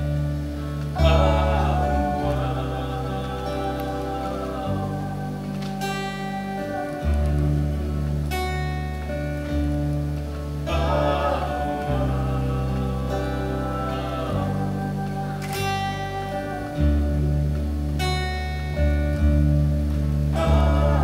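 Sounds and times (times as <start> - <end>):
acoustic guitar strumming chords: 0.0 - 21.0
sustained low bass notes: 0.0 - 21.0.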